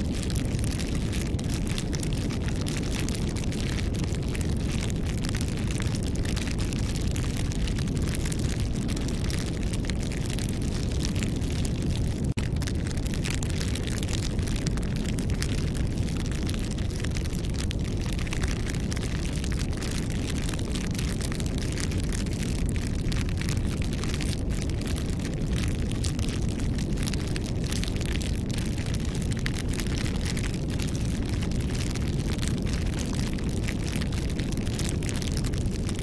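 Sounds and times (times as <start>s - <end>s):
campfire crackling and popping: 0.0s - 36.0s
fire rumbling: 0.0s - 36.0s.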